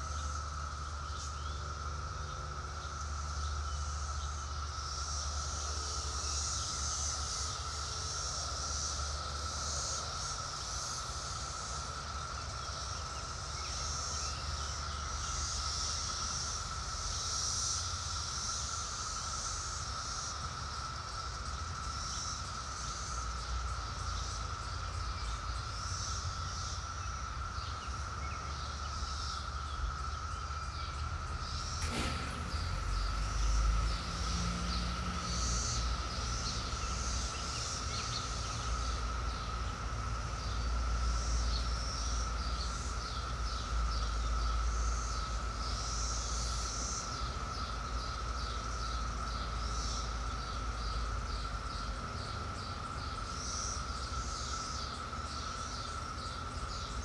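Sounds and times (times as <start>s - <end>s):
birds chirping: 0.0s - 57.0s
cicadas droning: 0.0s - 57.0s.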